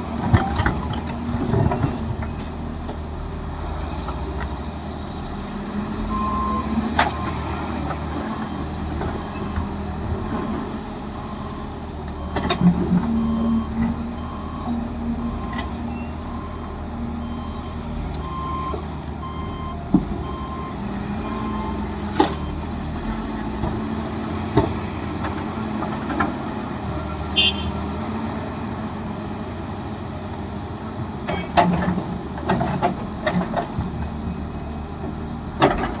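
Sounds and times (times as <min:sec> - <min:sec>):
low diesel engine hum: 0:00.0 - 0:36.0.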